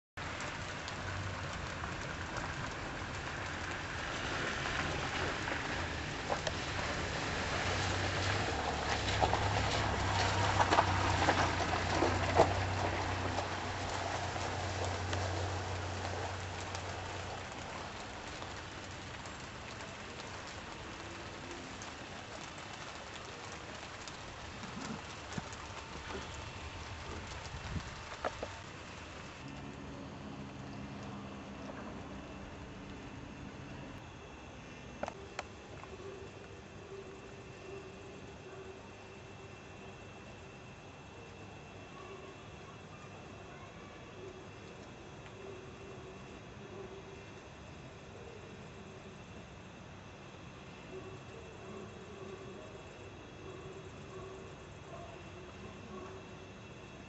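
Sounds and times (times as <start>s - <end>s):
rain falling: 0.2s - 41.9s, 42.5s - 57.0s
faint low hum: 7.7s - 57.0s.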